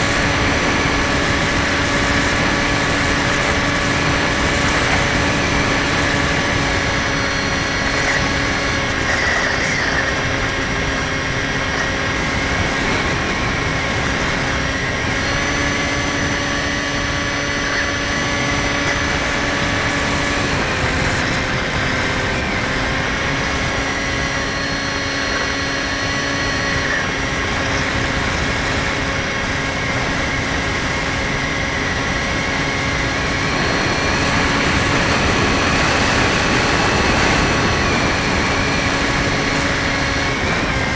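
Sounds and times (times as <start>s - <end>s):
electric motor and propeller whining: 0.0s - 40.9s.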